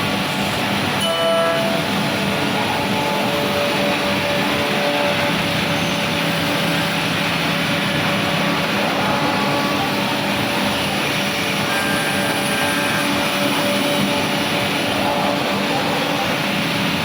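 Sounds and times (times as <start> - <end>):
machine running: 0.0 - 17.0.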